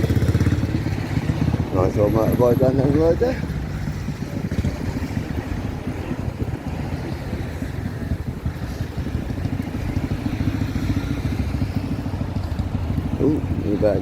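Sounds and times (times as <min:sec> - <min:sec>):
motorcycle engine rumble: 0:00.0 - 0:14.0
street traffic: 0:00.0 - 0:14.0.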